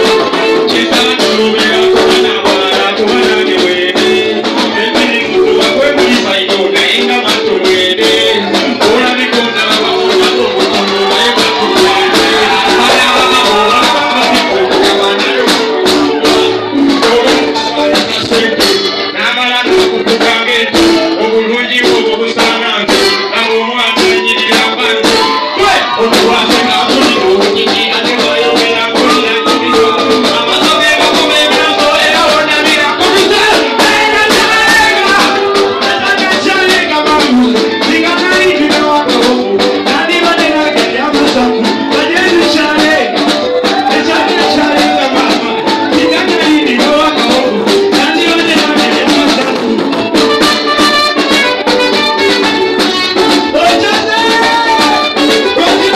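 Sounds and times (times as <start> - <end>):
live band playing dance music: 0.0 - 55.9.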